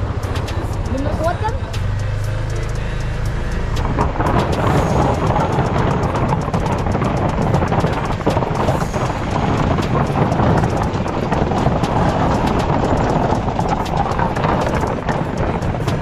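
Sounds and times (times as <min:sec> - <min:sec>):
motorcycle engine running: 0:00.0 - 0:16.0
wind noise: 0:00.0 - 0:16.0.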